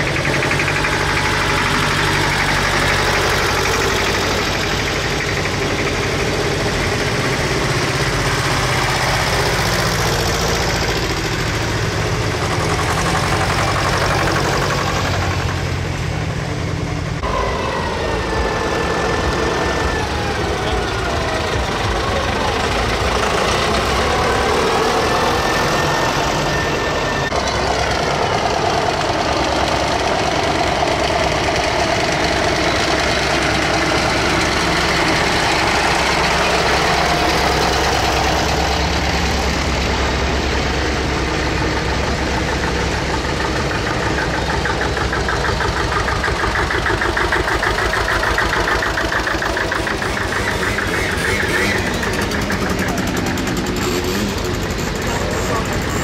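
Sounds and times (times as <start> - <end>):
diesel tractor engines chugging: 0.0 - 56.0.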